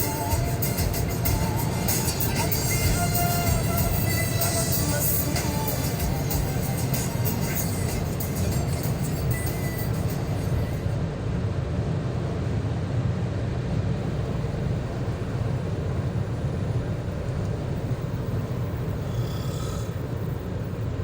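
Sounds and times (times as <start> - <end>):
car engine and tyre drone: 0.0 - 11.0, 13.8 - 21.0.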